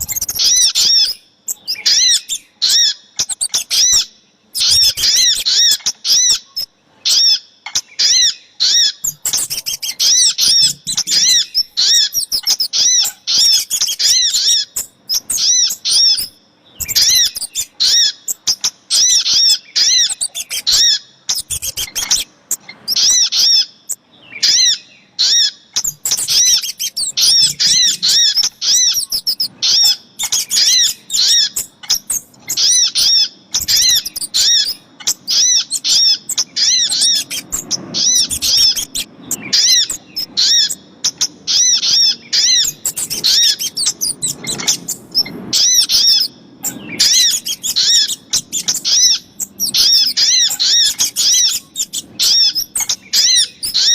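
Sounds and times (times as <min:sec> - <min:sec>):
high sharp bird chirping: 0:00.0 - 0:53.9.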